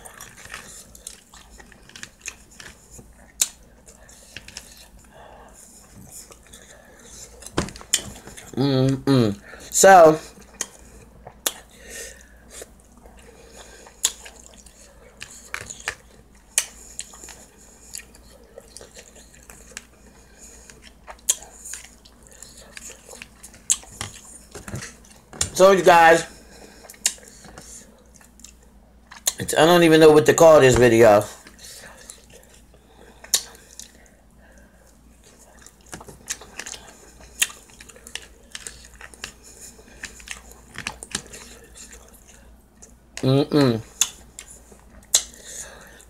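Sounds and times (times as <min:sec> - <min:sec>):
chewing: 0:00.0 - 0:08.6, 0:10.2 - 0:25.6, 0:26.3 - 0:29.5, 0:31.3 - 0:43.2, 0:43.8 - 0:46.0.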